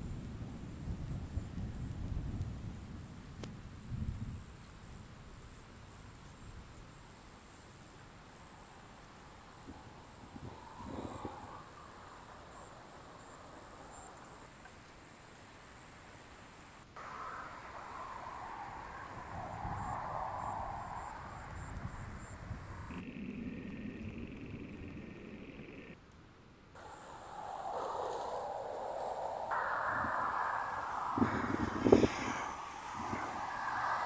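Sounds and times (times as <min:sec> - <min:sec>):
crickets chirping: 0:00.0 - 0:26.1, 0:26.7 - 0:34.0.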